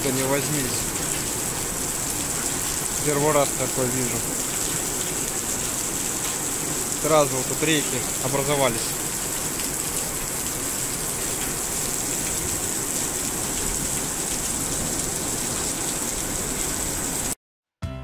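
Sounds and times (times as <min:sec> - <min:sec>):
heavy rain pouring: 0:00.0 - 0:17.4.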